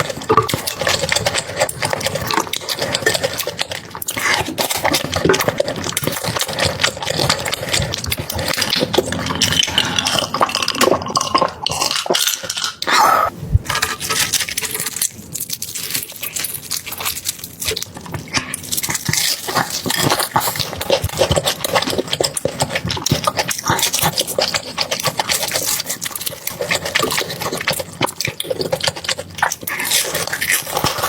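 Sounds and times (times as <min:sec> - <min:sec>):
wet chewing and slurping: 0:00.0 - 0:31.0.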